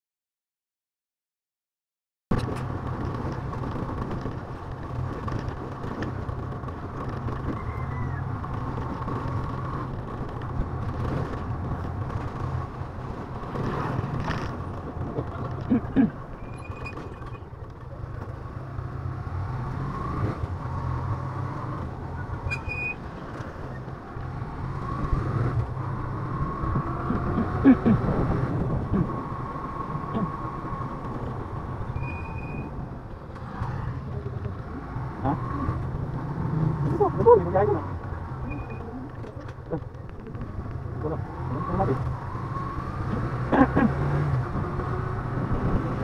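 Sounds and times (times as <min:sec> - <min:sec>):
road and wind noise: 0:02.3 - 0:46.0.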